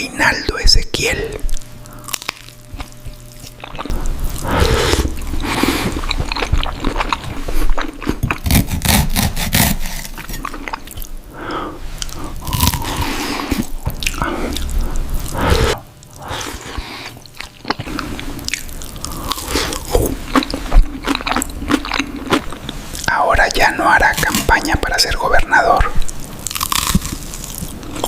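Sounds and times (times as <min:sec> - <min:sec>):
person crunching and chewing food: 0:00.5 - 0:28.0.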